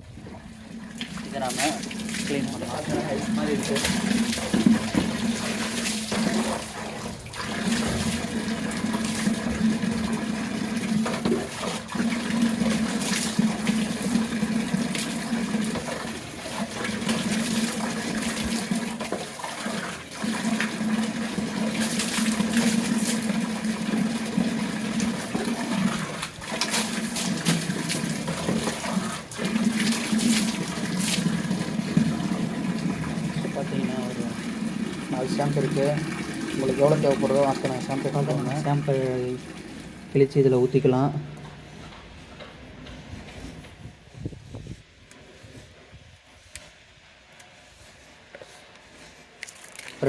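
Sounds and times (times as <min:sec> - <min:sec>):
running water splashing: 0:00.6 - 0:40.9.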